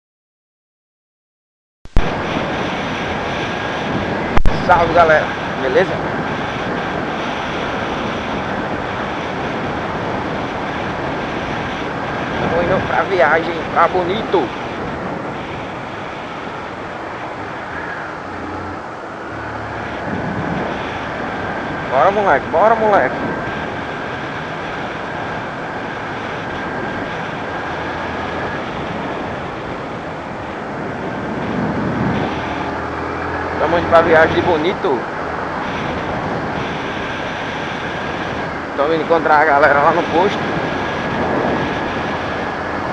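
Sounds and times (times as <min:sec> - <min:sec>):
motorcycle road noise: 0:01.9 - 0:42.9
wind rush on microphone: 0:01.9 - 0:42.9.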